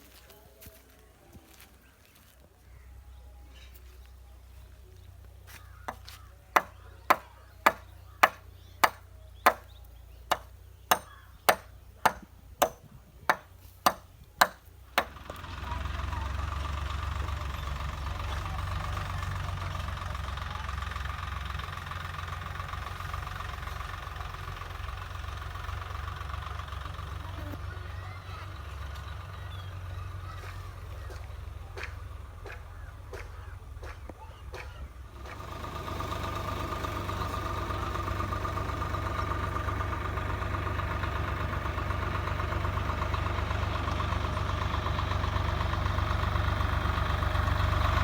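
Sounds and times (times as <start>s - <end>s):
engine running: 3.1s - 48.0s.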